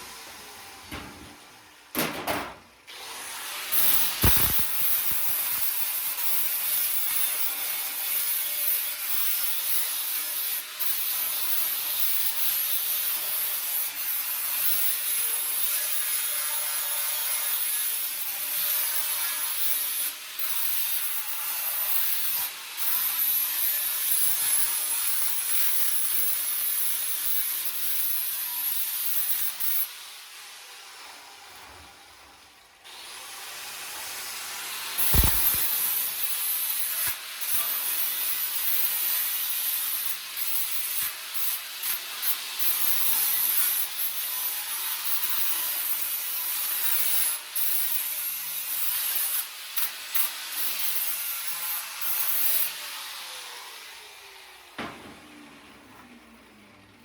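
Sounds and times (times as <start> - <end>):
power tool grinding: 2.9 - 57.0.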